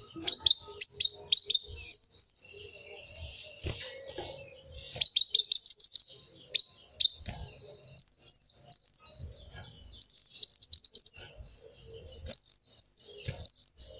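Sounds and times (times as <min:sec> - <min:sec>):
sunbird singing: 0:00.0 - 0:13.9.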